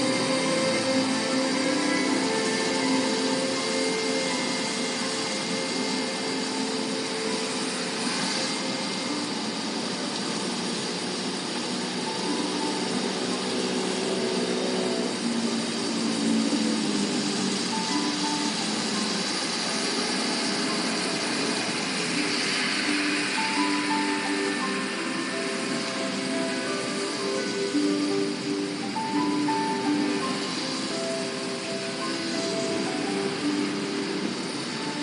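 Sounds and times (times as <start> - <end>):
faint music playing: 0.0 - 35.0
road and rain noise in car: 0.0 - 35.0.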